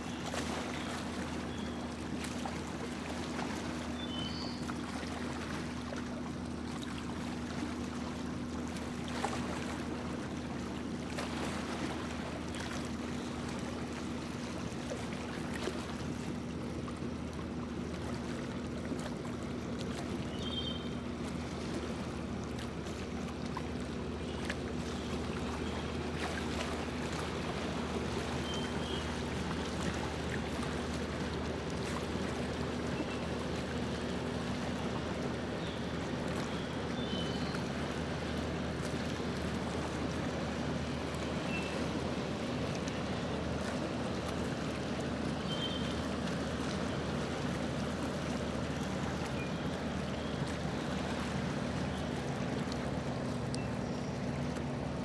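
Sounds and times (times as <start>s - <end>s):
motorboat engine humming: 0.0s - 55.0s
water rushing along hull: 0.0s - 55.0s.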